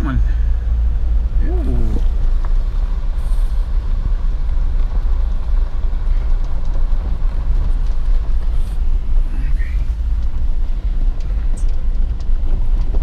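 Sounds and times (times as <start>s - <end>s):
vehicle driving on gravel: 0.0s - 13.0s.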